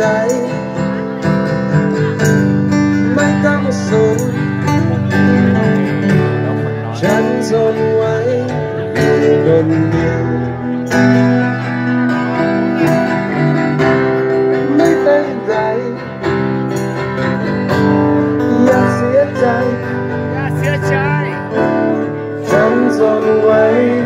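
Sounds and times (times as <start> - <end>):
live band music led by guitar: 0.0 - 24.0.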